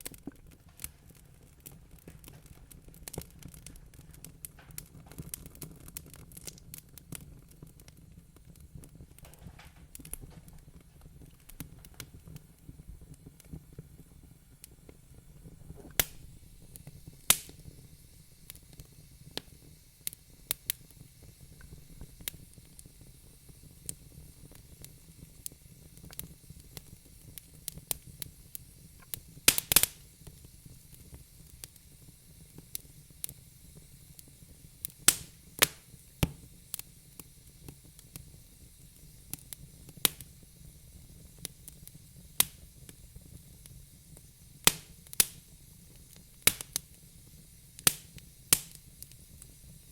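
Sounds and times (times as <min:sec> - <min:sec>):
low rumble of flames: 0:00.0 - 0:49.9
wood fire pops and snaps: 0:00.0 - 0:49.9.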